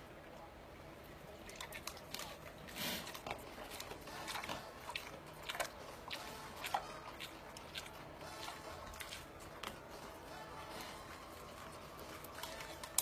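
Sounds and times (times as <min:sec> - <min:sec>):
wet chewing and lip-smacking: 0:01.4 - 0:13.0.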